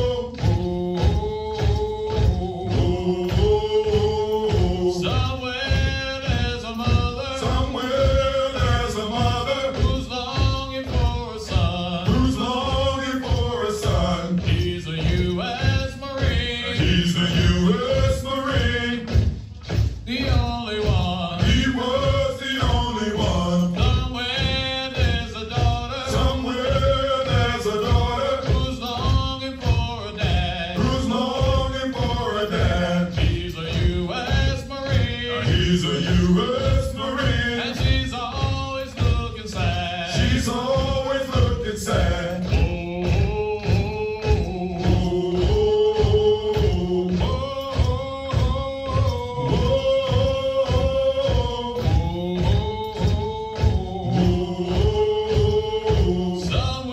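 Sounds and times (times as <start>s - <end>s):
men singing marching chant: 0.0s - 56.9s
steady beat: 0.0s - 56.9s.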